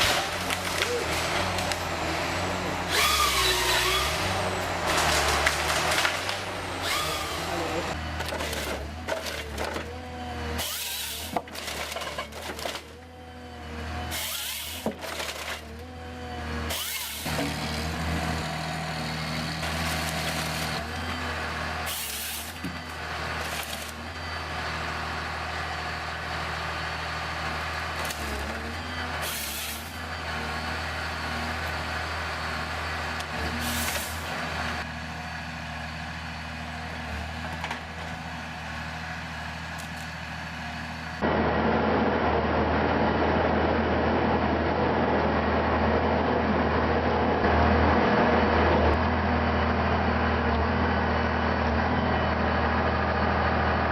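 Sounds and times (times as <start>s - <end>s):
diesel machinery running: 0.0s - 53.9s.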